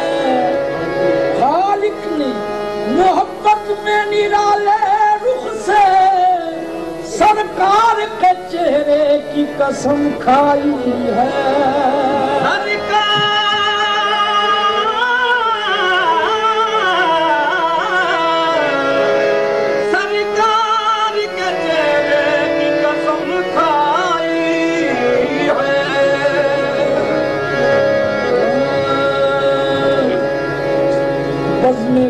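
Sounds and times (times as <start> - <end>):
sustained accompaniment: 0.0 - 32.0.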